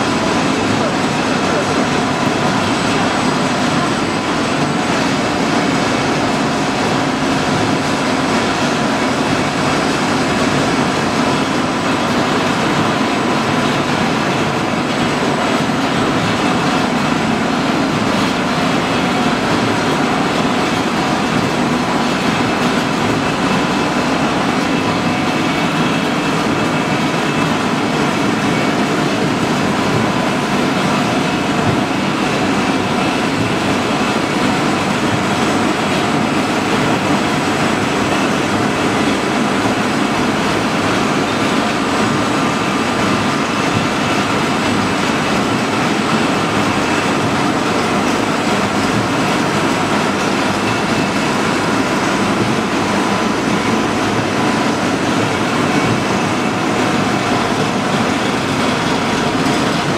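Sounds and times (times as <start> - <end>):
industrial machinery din: 0.0 - 59.9.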